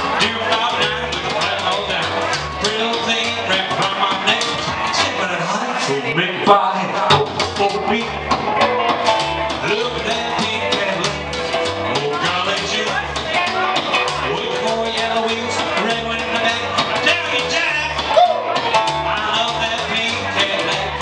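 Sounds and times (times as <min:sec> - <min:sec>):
hollow-body electric guitar: 0:00.0 - 0:21.0
upright bass plucking: 0:00.0 - 0:21.0.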